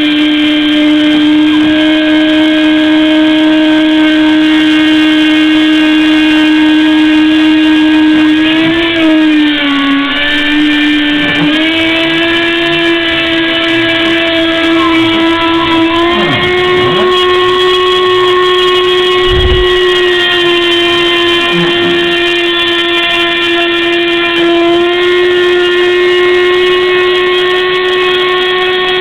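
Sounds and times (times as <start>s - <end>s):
cnc machine motors whining: 0.0s - 29.0s.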